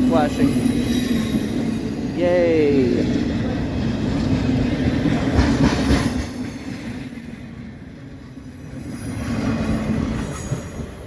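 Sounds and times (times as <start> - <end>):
freight train wheels clacking: 0.0 - 11.0
train wheels squealing: 0.0 - 11.0.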